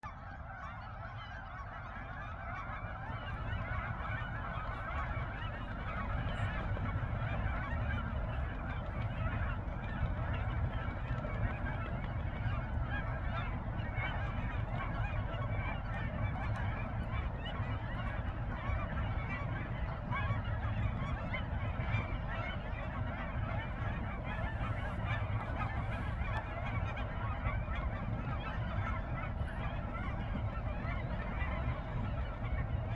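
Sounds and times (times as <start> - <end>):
geese honking: 0.4 - 32.9.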